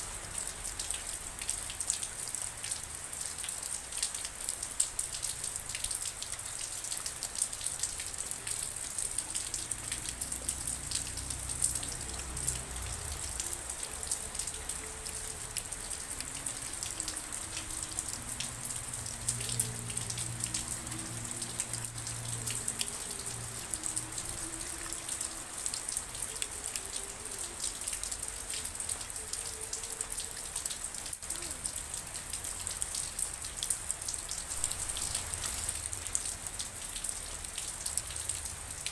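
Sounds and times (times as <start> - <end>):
rain drops ticking on a surface: 0.0 - 38.9.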